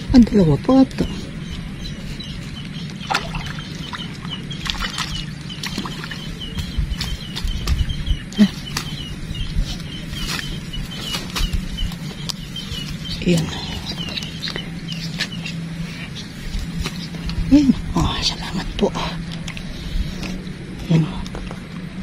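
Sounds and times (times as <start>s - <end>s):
low rumbles: 0.0s - 22.0s
shrubs rustling: 0.0s - 22.0s
steady low hum: 0.0s - 22.0s.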